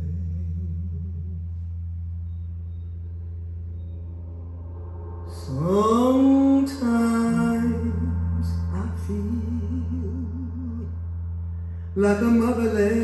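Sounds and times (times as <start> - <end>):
deep drone note: 0.0 - 13.0.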